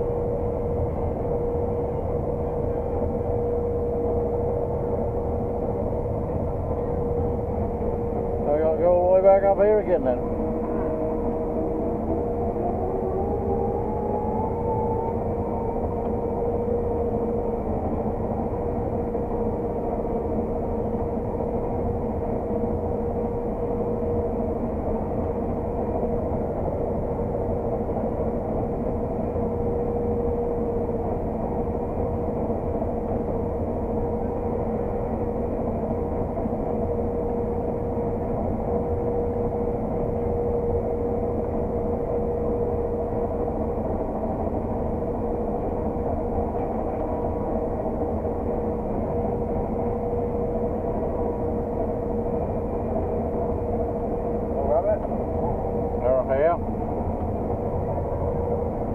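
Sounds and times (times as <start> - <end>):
combine harvester engine drone: 0.0 - 58.9
constant machine whine: 0.0 - 58.9.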